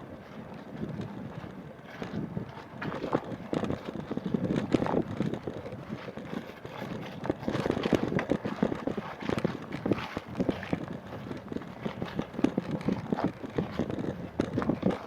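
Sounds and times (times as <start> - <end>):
paddle splashing water: 0.1 - 15.0
paddle tapping kayak hull: 0.5 - 15.0.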